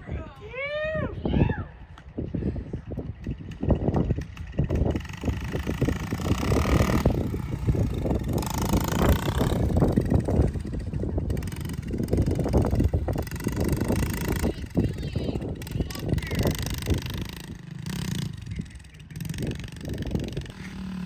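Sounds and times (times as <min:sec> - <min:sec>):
wind on microphone: 0:00.0 - 0:21.0
dirt bike engine revving: 0:03.3 - 0:21.0.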